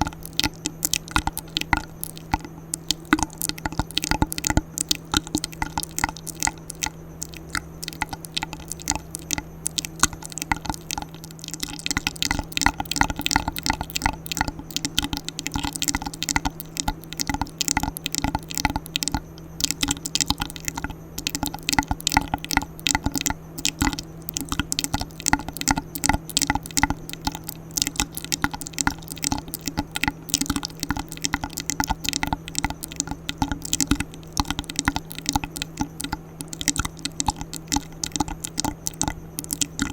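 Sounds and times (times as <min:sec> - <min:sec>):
low hum: 0:00.0 - 0:39.9
wet mouth clicks and smacks: 0:00.0 - 0:39.9.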